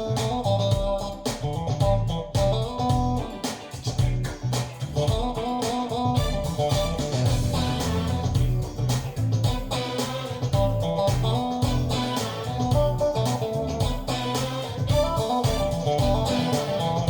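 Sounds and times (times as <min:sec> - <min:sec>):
guitar-led music with bass and beat: 0:00.0 - 0:17.0.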